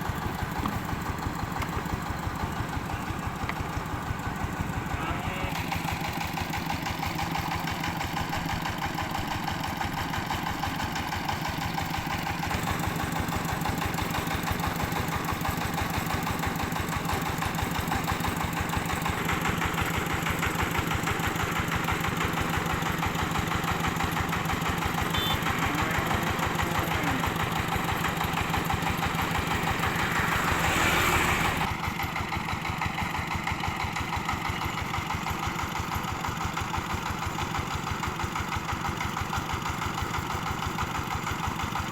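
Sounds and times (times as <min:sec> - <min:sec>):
milling machine engine running: 0:00.0 - 0:36.2.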